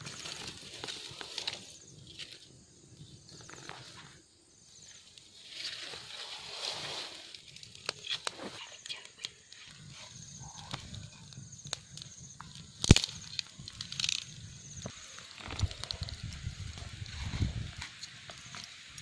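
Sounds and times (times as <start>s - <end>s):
twig fire crackling: 0.0s - 19.0s.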